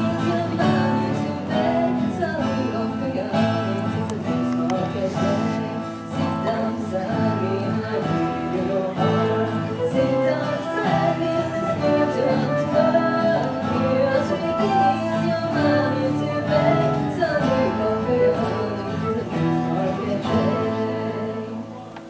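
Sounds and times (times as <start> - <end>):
nylon-string classical guitar: 0.0 - 22.0
steel-string acoustic guitar: 0.0 - 22.0.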